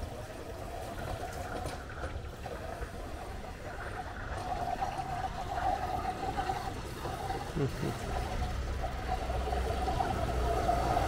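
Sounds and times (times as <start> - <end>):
thin steady whining tone: 0.0 - 11.0
traffic rumble: 0.0 - 11.0.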